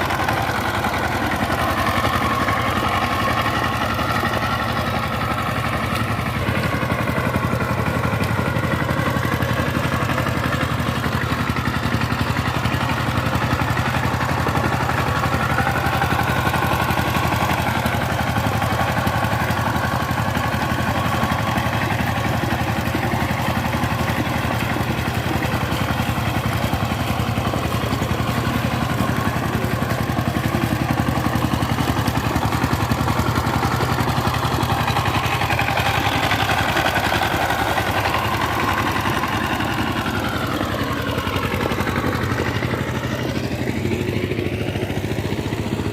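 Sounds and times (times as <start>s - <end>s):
diesel tiller engine running: 0.0s - 45.9s.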